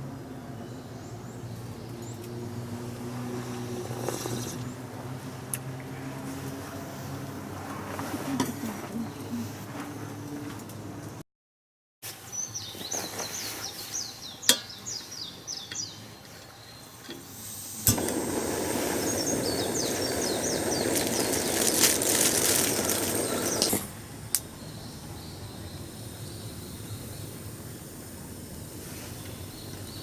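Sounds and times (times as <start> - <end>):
small birds chirping: 0.2 - 4.9, 7.9 - 10.4, 12.3 - 30.0.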